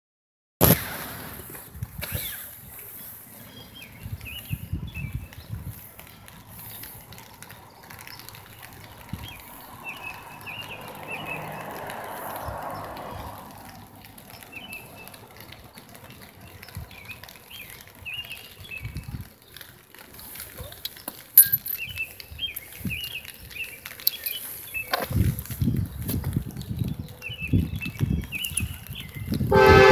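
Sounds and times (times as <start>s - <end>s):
small birds chirping: 2.1s - 29.5s.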